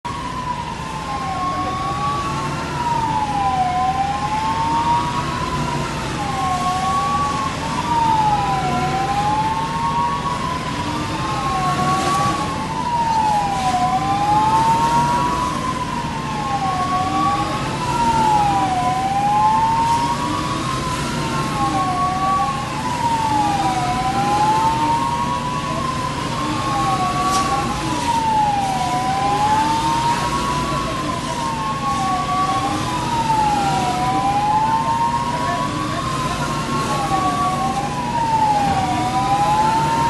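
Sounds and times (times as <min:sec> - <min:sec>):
emergency sirens wailing: 0:00.0 - 0:40.0.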